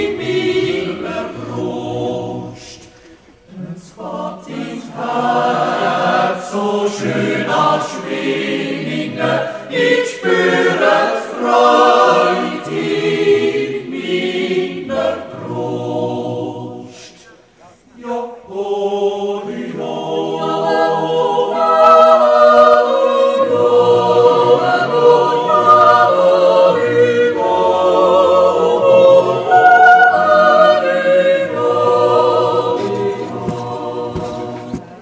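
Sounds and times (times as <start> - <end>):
choir yodeling without instruments: 0.0 - 35.0.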